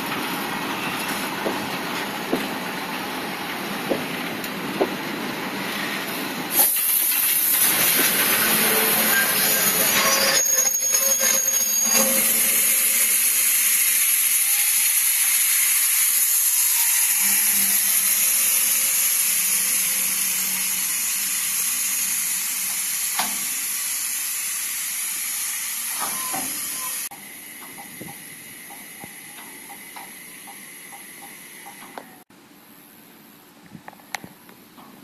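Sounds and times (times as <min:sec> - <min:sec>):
train wheels rushing on rails: 0:00.0 - 0:10.5, 0:12.1 - 0:32.2.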